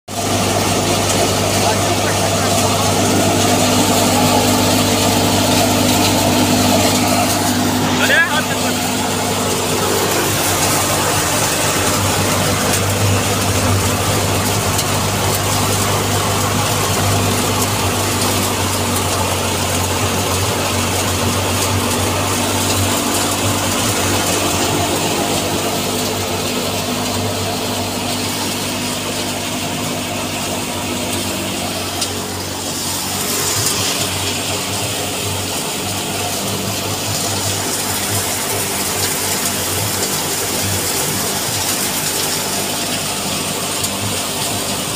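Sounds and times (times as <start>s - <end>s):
loud engine hum: 0.1s - 44.9s
thresher beating stalks: 0.1s - 44.9s.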